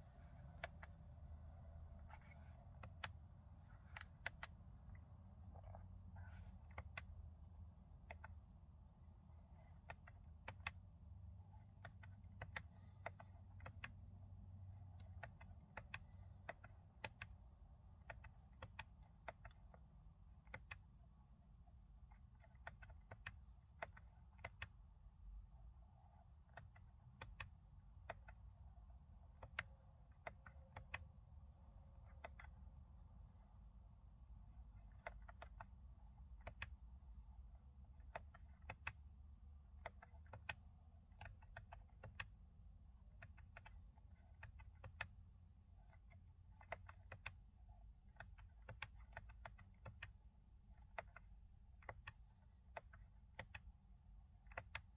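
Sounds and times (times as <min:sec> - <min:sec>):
faint low hum: 0:00.0 - 0:54.9.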